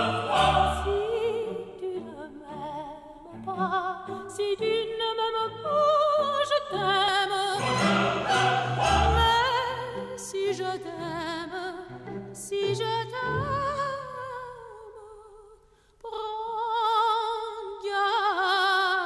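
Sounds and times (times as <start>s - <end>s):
operatic singing with vibrato: 0.0s - 15.4s.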